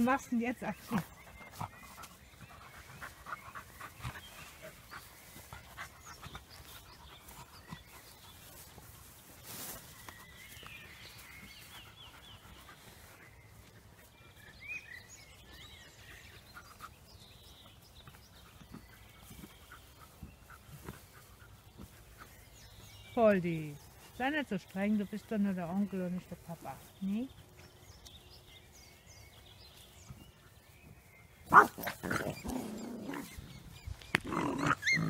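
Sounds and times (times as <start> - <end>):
puppies playing: 0.0 - 14.7, 15.3 - 35.0.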